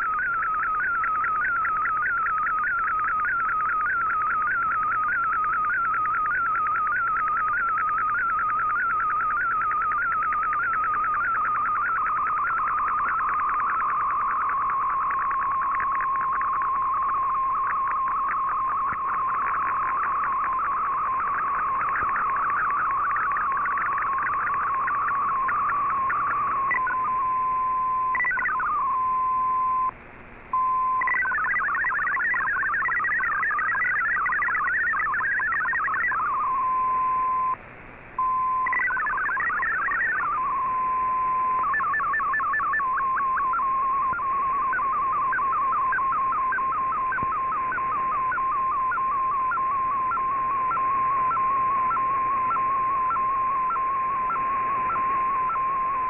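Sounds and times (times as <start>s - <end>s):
fast multi-tone data warble: 0.0s - 37.6s, 38.2s - 56.0s
steady radio tone: 0.0s - 56.0s
warbling radio data tone: 0.0s - 56.0s.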